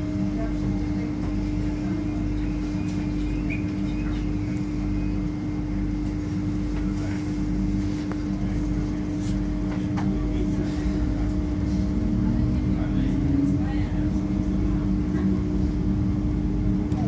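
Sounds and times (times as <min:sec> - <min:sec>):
train interior rumble and hum: 0:00.0 - 0:17.0.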